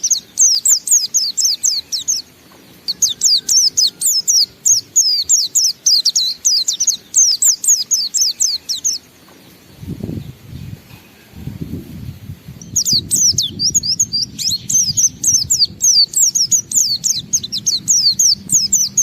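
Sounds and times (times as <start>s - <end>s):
bird singing fast falling notes: 0.0s - 10.8s, 12.6s - 19.0s.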